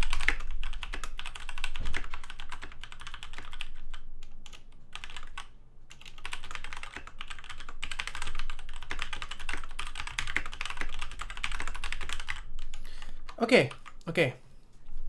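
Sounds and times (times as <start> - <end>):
mechanical keyboard typing: 0.0 - 14.1.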